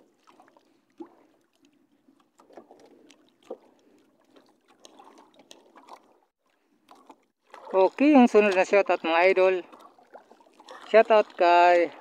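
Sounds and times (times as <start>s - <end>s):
soft splashes: 0.0s - 12.0s
water lapping against boat hull: 0.0s - 12.0s.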